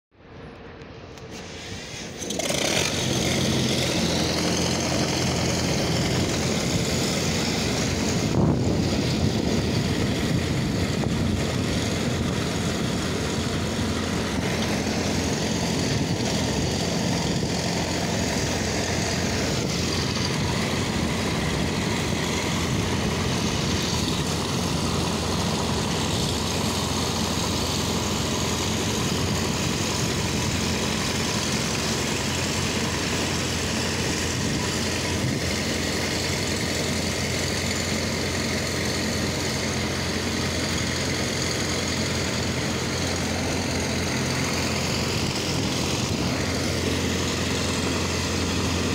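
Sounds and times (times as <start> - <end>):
train rolling past: 0.2 - 48.9.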